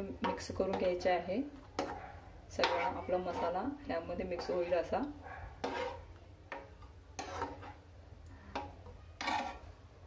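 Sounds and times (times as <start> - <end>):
spatula scraping a pan: 0.0 - 1.2, 1.8 - 9.8
wet stirring sounds: 0.0 - 10.0.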